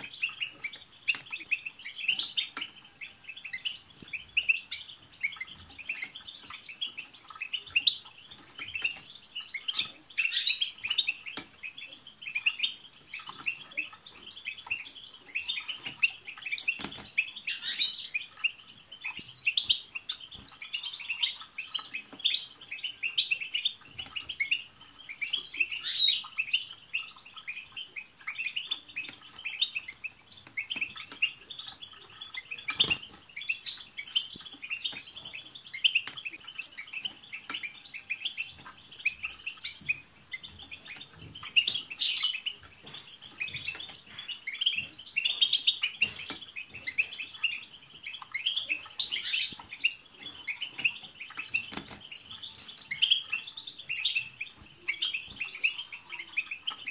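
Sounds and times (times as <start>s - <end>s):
finches twittering: 0.0s - 56.9s.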